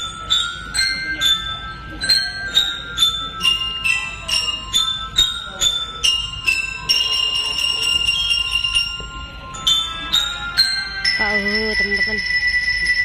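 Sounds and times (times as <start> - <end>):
glockenspiel-like bell melody: 0.0 - 13.0.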